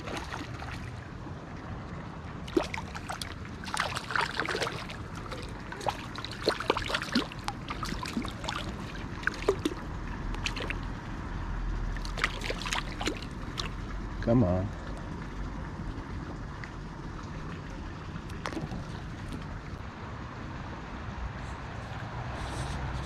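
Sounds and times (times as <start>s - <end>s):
water splashing and sloshing: 0.0s - 19.9s
river water running: 0.0s - 20.2s.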